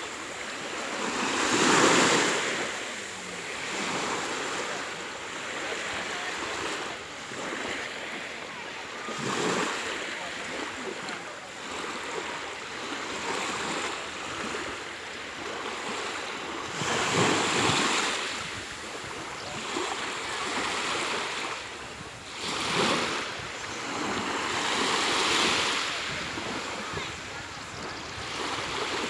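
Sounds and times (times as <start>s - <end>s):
waves breaking on shore: 0.0s - 29.0s.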